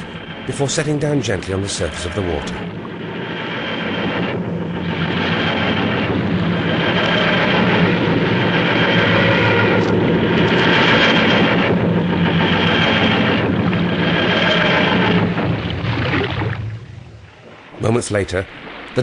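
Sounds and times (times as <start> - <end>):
cycling mechanical drone: 0.0 - 18.1.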